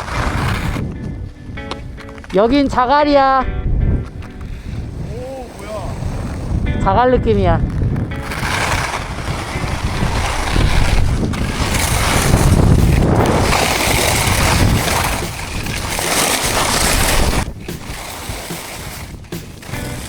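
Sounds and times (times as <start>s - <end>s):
skis scraping over crusted snow: 0.0s - 3.0s, 4.0s - 20.0s
wind buffeting microphone: 0.0s - 20.0s.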